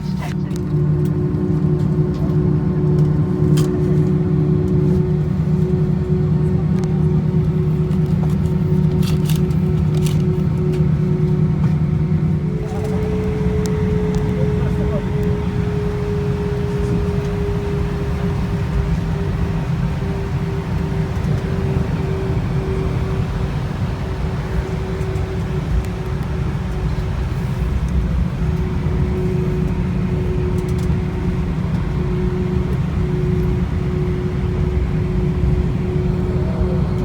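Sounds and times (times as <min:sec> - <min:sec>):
aircraft cabin engine rumble: 0:00.0 - 0:37.0.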